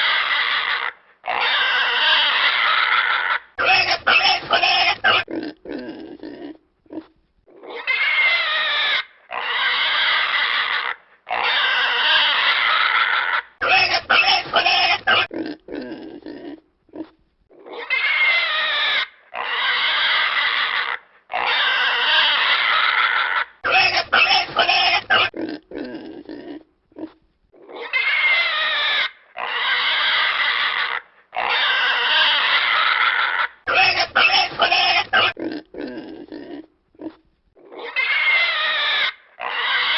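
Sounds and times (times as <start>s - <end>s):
pig grunting: 0.0s - 39.9s
pig squealing: 0.0s - 39.9s.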